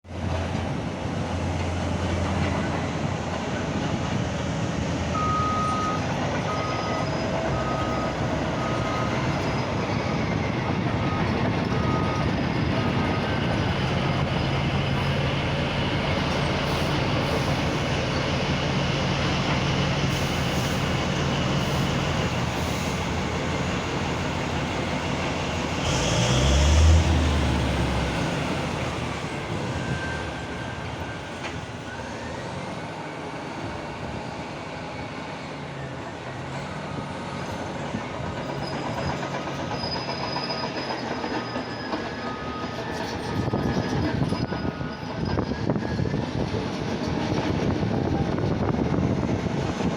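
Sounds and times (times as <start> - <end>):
steel tracks clattering: 0.1 - 49.9
bulldozer diesel engine running: 1.5 - 44.3.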